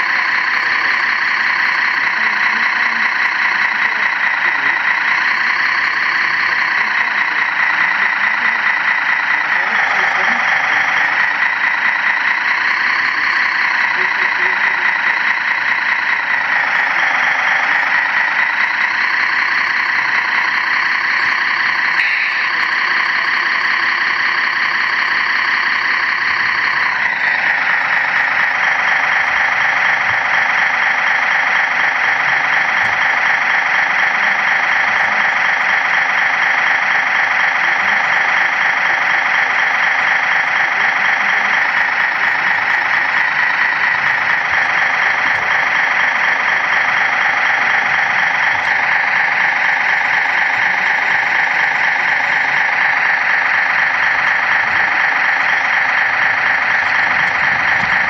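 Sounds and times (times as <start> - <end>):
model truck engine idling: 0.0 - 58.0.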